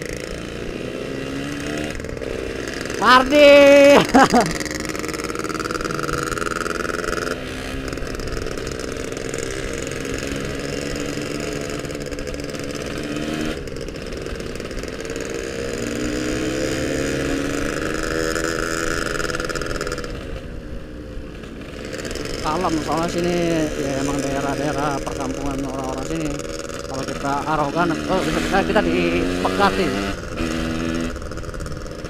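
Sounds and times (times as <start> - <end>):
two-stroke motorcycle engine: 0.0 - 32.0.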